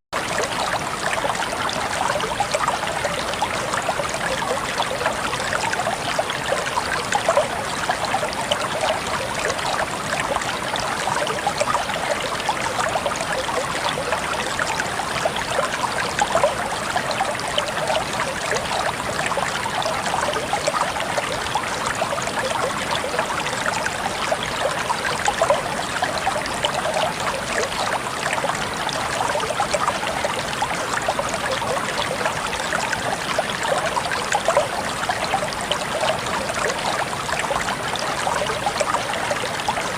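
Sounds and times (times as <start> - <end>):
stream flowing and babbling: 0.1 - 39.9.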